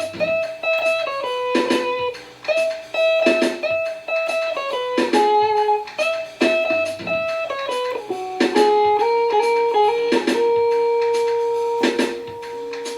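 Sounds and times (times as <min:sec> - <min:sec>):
jazz guitar line: 0:00.0 - 0:12.9
sharp percussive hits: 0:00.0 - 0:12.9.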